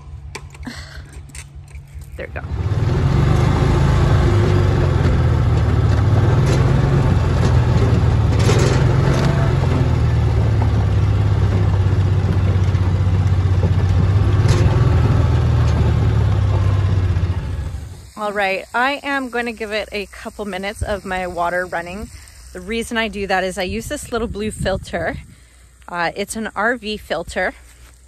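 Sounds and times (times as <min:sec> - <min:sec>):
electric water pump humming: 0:00.0 - 0:28.0.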